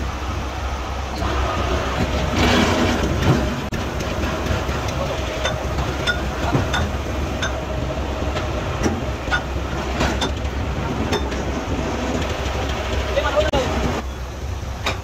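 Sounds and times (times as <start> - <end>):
machine low drone: 0.0 - 15.0.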